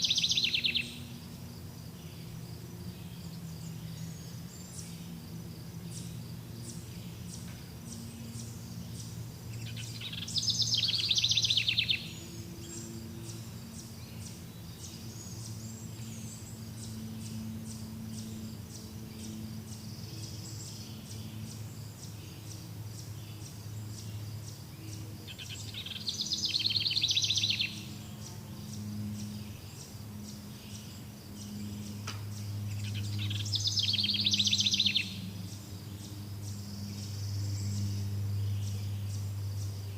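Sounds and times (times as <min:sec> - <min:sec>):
songbird trilling: 0:00.0 - 0:01.3, 0:03.0 - 0:39.9
low steady hum: 0:00.0 - 0:39.9.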